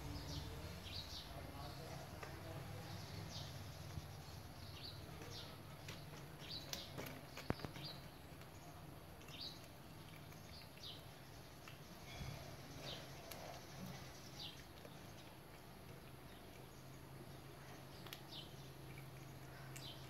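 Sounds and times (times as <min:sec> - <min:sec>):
cats chewing: 0:00.1 - 0:20.0.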